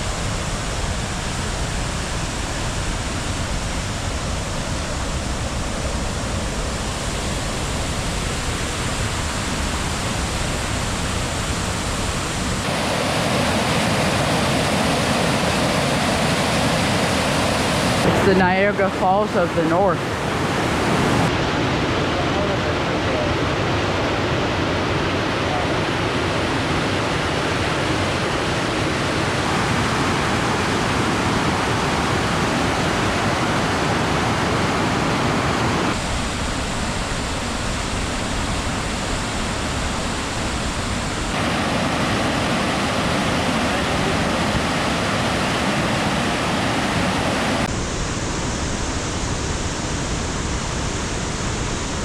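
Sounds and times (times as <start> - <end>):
large waterfall rushing: 0.0 - 52.0.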